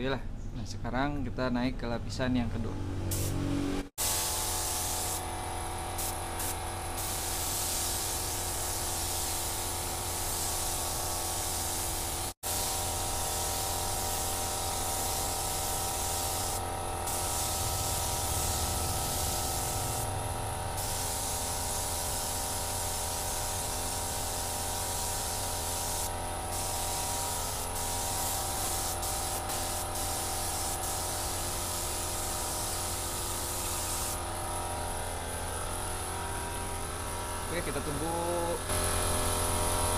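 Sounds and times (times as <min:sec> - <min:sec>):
air spray gun hissing: 0:03.1 - 0:03.4, 0:04.0 - 0:39.9
steady low hum: 0:04.7 - 0:39.9.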